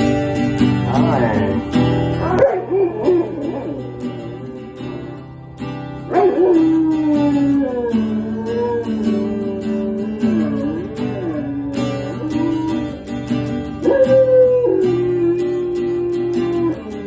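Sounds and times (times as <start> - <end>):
acoustic guitar strumming: 0.0 - 17.0
puppy howling: 0.8 - 5.4, 6.0 - 17.0.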